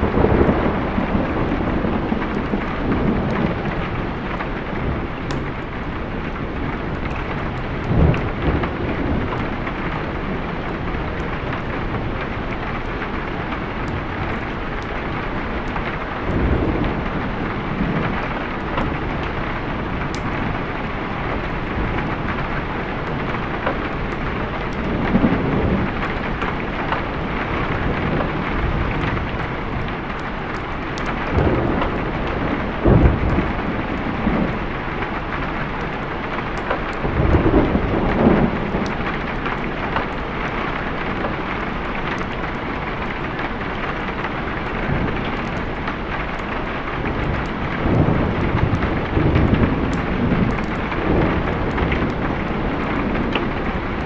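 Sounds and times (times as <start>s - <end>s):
heavy rain: 0.0s - 54.0s
thunder rumbling: 0.0s - 54.0s.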